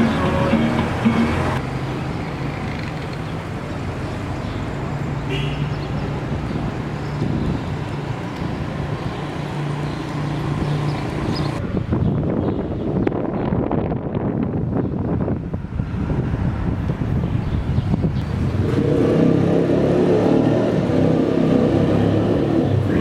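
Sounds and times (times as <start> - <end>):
town traffic noise: 0.0 - 23.0.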